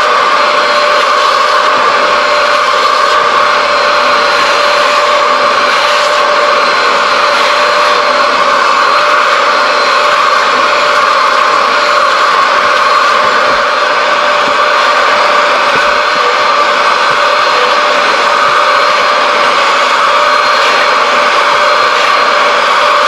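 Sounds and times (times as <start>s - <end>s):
vacuum motor running: 0.0s - 23.0s.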